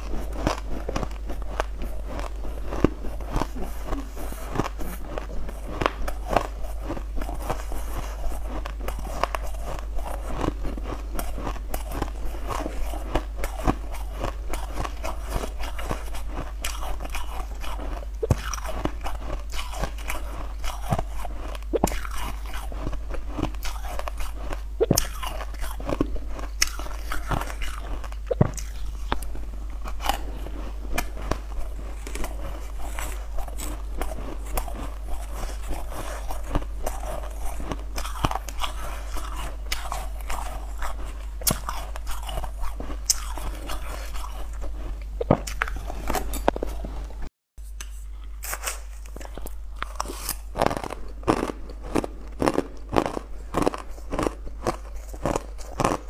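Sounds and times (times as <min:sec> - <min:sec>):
crunching and chewing ice: 0:00.0 - 0:47.2, 0:48.0 - 0:56.0.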